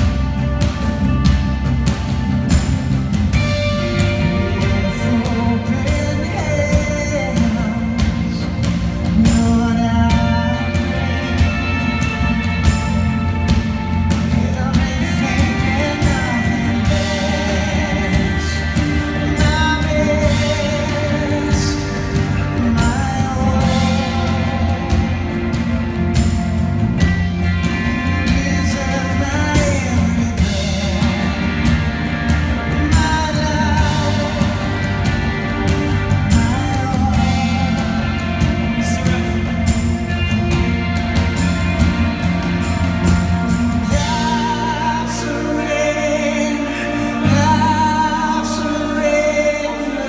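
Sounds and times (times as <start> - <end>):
live worship band playing: 0.0 - 50.0
person singing: 3.3 - 50.0.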